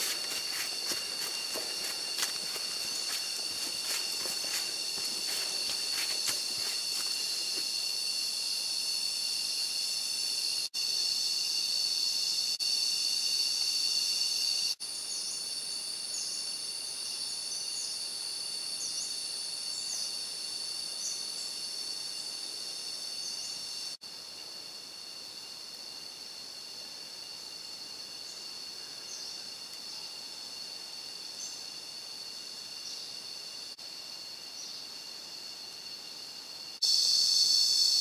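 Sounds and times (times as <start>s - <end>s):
insect chorus drone: 0.0s - 38.0s.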